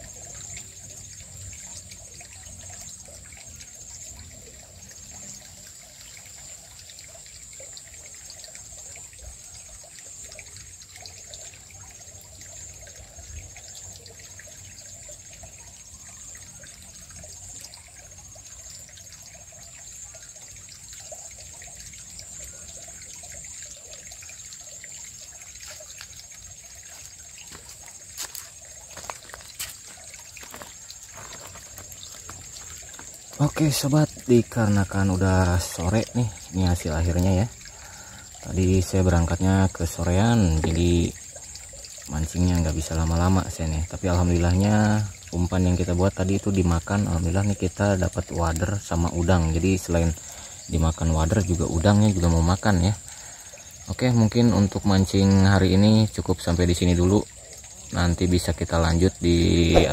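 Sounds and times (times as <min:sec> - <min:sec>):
stream trickling over stones: 0:00.0 - 0:59.9.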